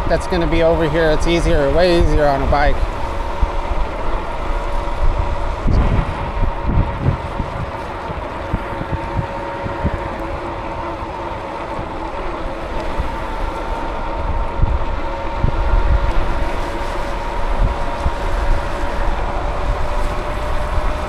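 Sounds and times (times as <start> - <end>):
steady high whine: 0.0 - 21.0
wind buffeting microphone: 0.0 - 21.0.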